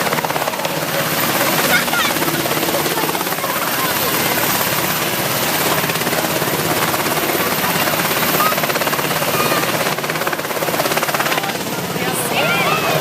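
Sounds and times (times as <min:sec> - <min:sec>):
helicopter rotor chopping: 0:00.0 - 0:13.0.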